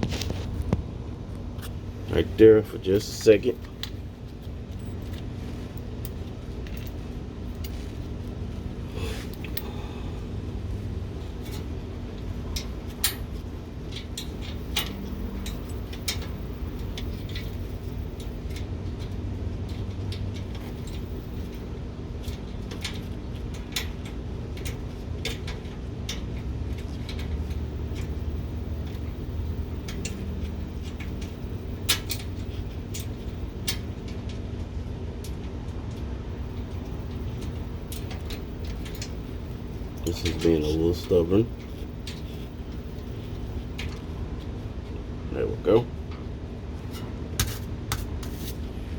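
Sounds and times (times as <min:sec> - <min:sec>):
steady low rumble: 0:00.0 - 0:48.9.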